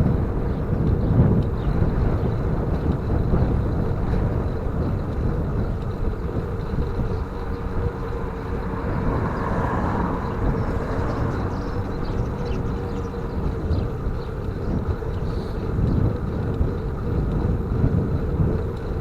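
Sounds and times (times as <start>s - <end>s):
rolling road noise: 0.0s - 19.0s
wind buffeting microphone: 0.0s - 19.0s.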